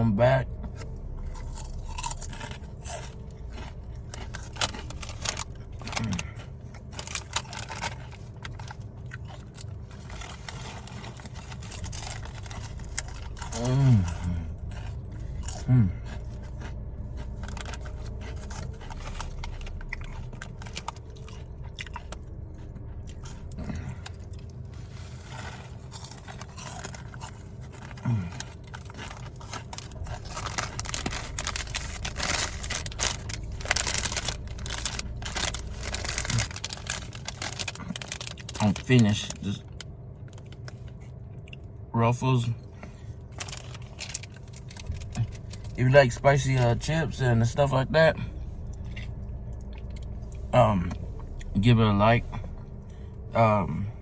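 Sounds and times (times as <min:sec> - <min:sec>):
person crunching chips: 0:00.8 - 0:41.7, 0:42.7 - 0:53.2.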